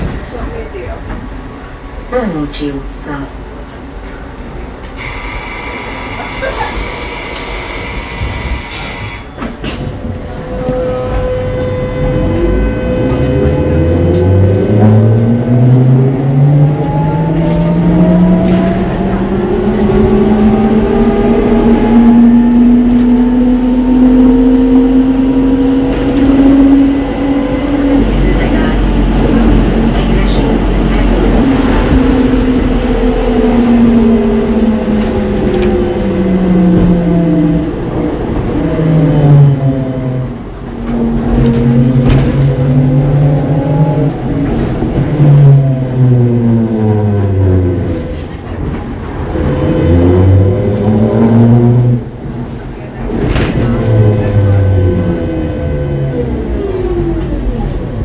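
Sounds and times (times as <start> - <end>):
trolleybus electric drive whine: 0.0 - 58.0
trolleybus running noise: 0.0 - 58.0.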